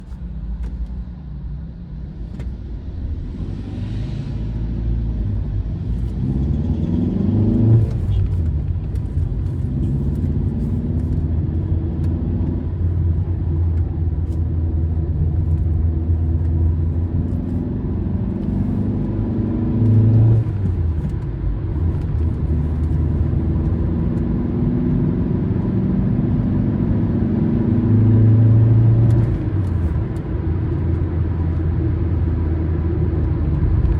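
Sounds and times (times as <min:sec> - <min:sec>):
low road rumble: 0:00.0 - 0:33.9
car engine accelerating: 0:02.2 - 0:33.9.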